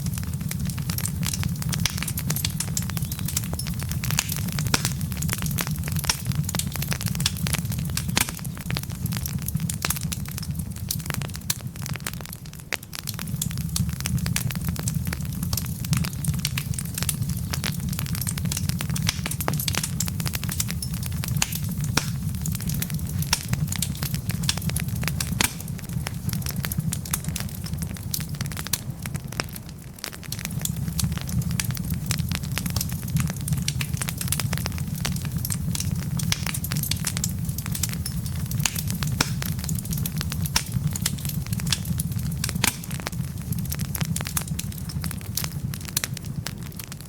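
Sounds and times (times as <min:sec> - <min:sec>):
fire rumbling: 0:00.0 - 0:47.0
logs popping and crackling: 0:00.0 - 0:47.0.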